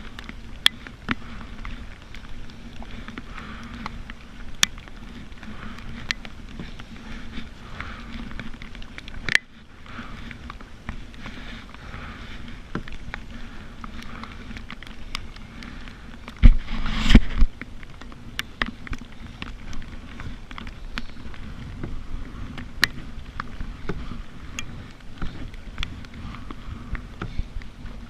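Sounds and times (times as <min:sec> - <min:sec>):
paddle drips and taps on boat: 0:00.0 - 0:28.0.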